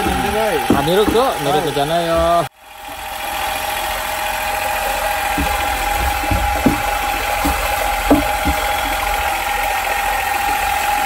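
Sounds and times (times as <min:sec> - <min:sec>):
dull knocks: 0:00.0 - 0:03.0, 0:04.6 - 0:11.0
paddle mixer motor whining: 0:00.0 - 0:11.0.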